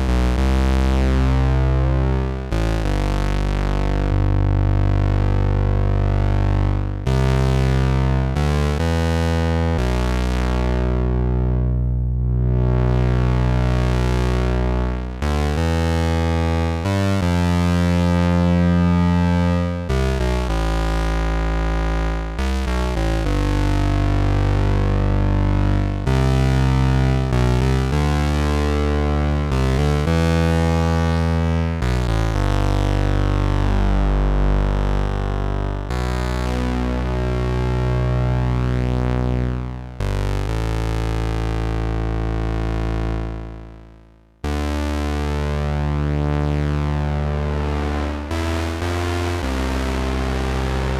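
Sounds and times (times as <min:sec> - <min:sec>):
synthesizer bass notes: 0:00.0 - 0:43.7, 0:44.4 - 0:50.9.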